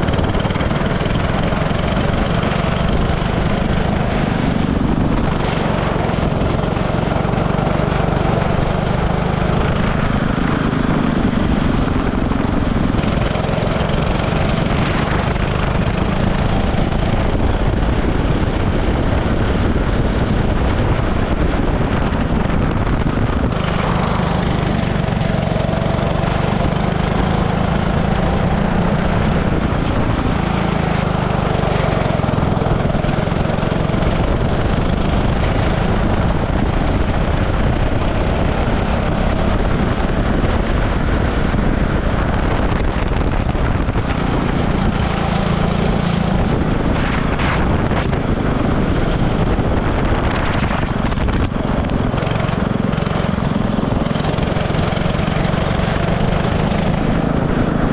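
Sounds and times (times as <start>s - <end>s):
kart engine revving: 0.0s - 57.9s.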